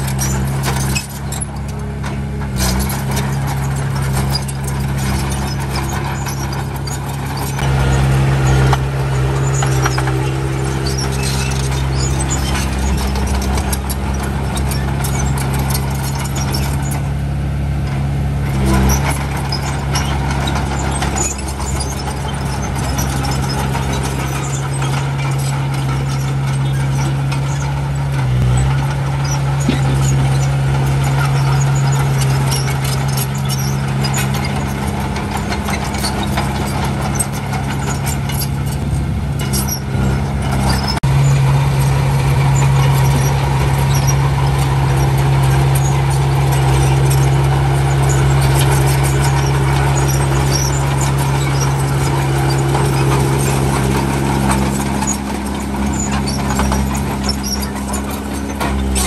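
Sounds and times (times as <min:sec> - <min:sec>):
heavy machinery diesel engines: 0:00.0 - 0:59.0
metallic clicks and squeaks: 0:00.0 - 0:59.0.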